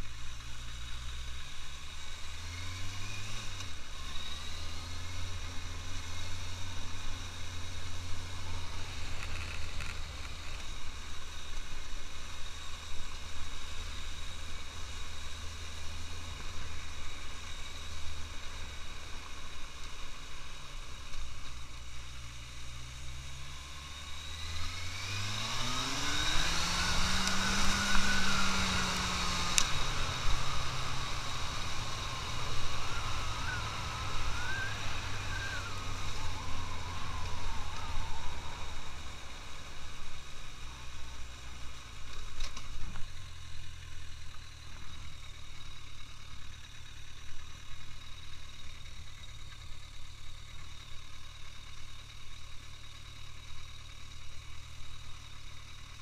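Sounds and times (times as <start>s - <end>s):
motorcycle engine running low: 0.0s - 56.0s.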